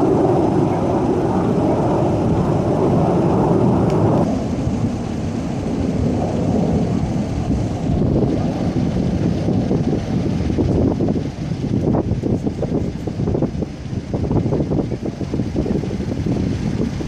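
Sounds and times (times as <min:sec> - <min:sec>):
jet aircraft rumbling overhead: 0:00.0 - 0:17.0.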